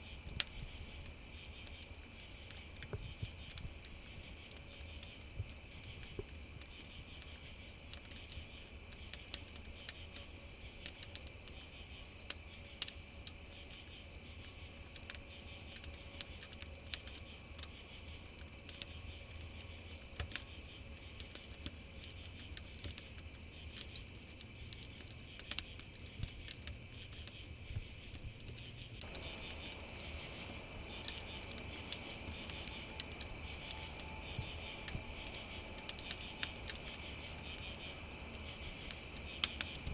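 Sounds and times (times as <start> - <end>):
crickets chirping: 0.0 - 39.9
campfire crackling and popping: 0.1 - 39.9.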